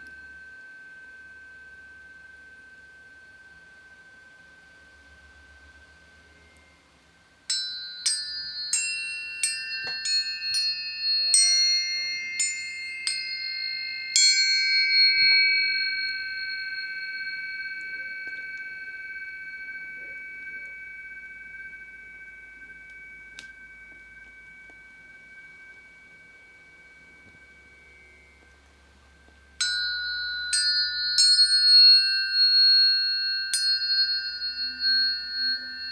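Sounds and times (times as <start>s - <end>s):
steady high tone: 0.0s - 35.9s
tuning forks ringing: 0.0s - 35.9s.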